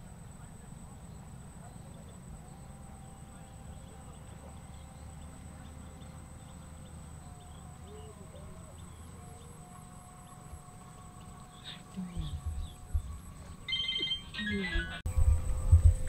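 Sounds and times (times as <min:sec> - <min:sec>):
distant birds chirping: 0:00.0 - 0:16.0
low steady rumble: 0:00.0 - 0:16.0
thin steady high tone: 0:00.0 - 0:16.0.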